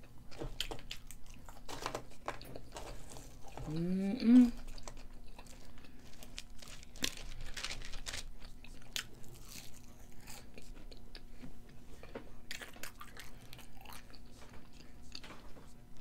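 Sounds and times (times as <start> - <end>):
chewing crunchy fries: 0.0 - 16.0.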